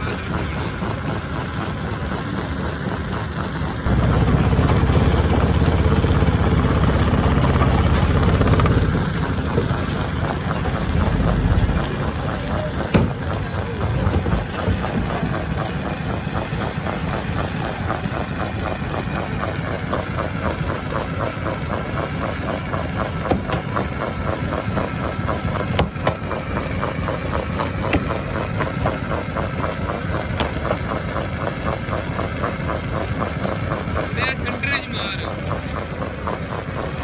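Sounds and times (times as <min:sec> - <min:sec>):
stone crusher running: 0:00.0 - 0:37.0.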